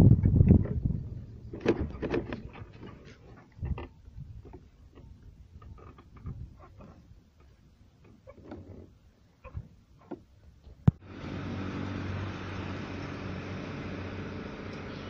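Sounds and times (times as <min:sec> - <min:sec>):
outdoor rumble: 0:00.0 - 0:15.0.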